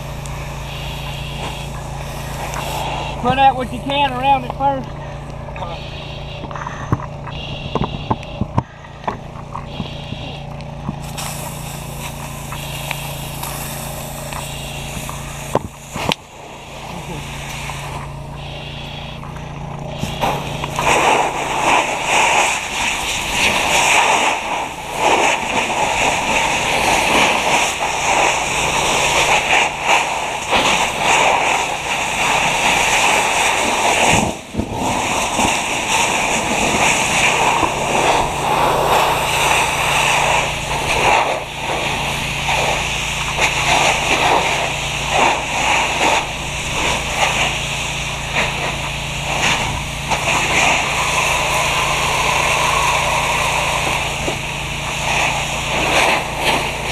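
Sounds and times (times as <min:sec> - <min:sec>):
fire hose water spraying: 0:00.0 - 0:56.9
low hum: 0:00.0 - 0:56.9.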